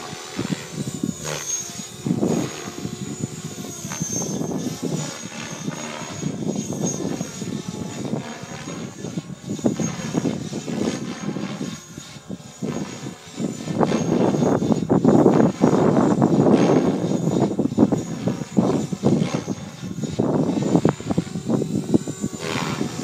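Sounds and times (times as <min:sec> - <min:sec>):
electric motor whining: 0:00.0 - 0:23.0
rotor blades whooshing: 0:00.0 - 0:23.0.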